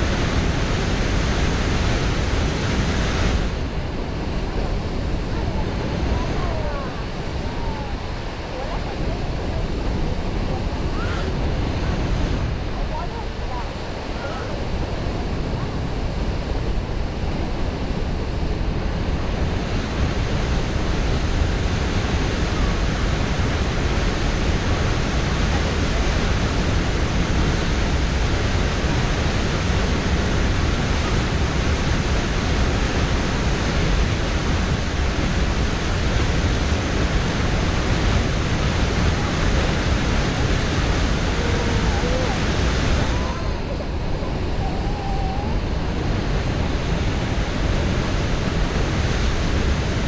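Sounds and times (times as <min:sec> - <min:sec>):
water rushing over falls: 0:00.0 - 0:50.0.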